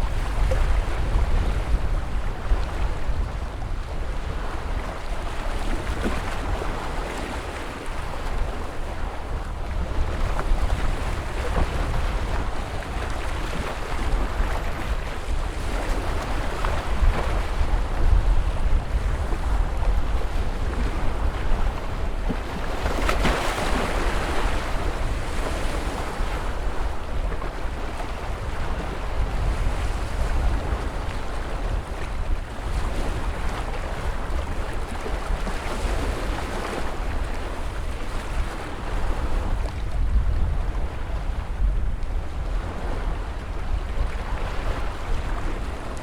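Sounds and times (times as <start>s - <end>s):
ocean waves breaking: 5.4s - 46.0s.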